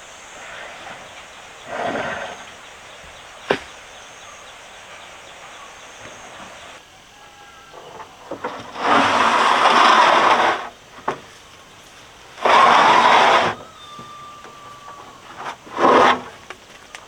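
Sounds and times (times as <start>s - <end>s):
faint high insect drone: 0.0s - 17.0s.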